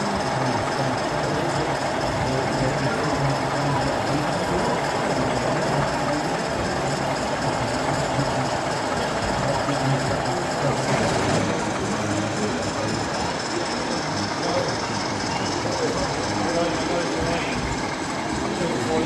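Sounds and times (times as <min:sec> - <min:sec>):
model train running on track: 0:00.0 - 0:19.0
steady background din: 0:00.0 - 0:19.0.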